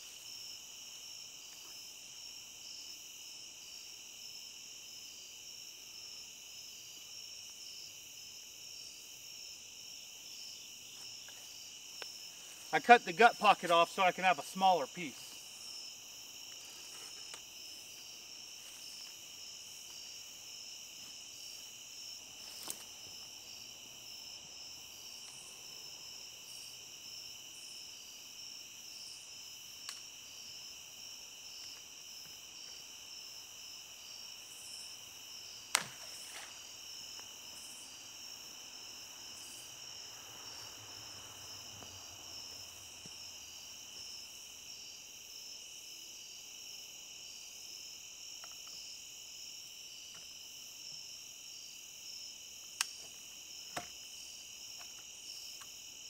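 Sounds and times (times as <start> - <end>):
crickets and night insects: 0.0 - 56.0.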